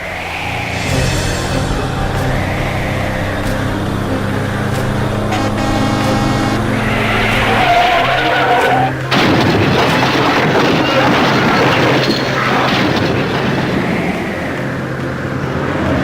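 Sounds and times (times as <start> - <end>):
loud noisy rush: 0.0 - 16.0
vehicle engine humming: 0.0 - 16.0.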